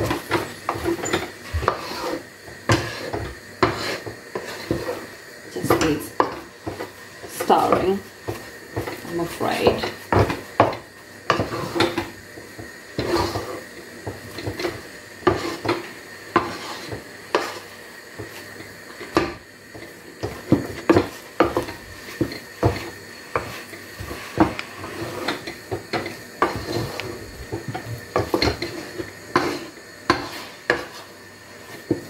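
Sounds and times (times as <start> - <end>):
wooden spatula scraping a pot: 0.0 - 32.0.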